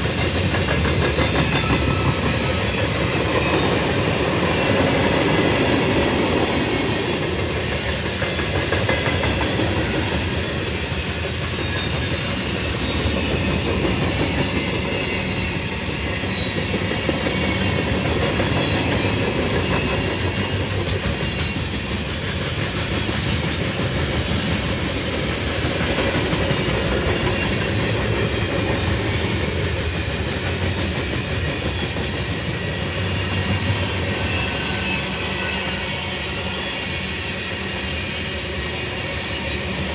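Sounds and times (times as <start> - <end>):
train wheels clacking on rail joints: 0.0 - 35.8
freight train rumble: 0.0 - 39.9.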